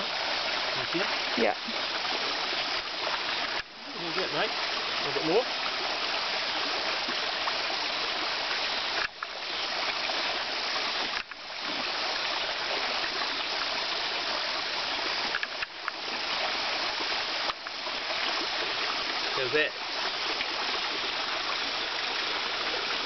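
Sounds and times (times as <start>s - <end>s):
stream flowing over rocks: 0.0s - 23.0s.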